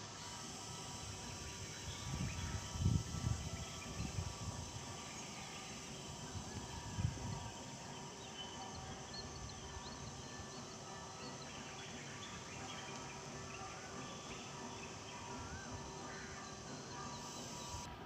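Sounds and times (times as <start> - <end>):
insects humming: 0.0 - 17.9.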